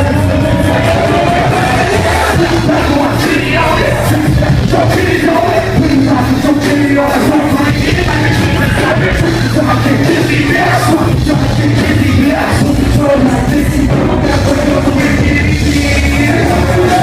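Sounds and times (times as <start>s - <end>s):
heavy bass: 0.0s - 17.0s
loud live concert music: 0.0s - 17.0s
shouted vocals: 0.0s - 17.0s.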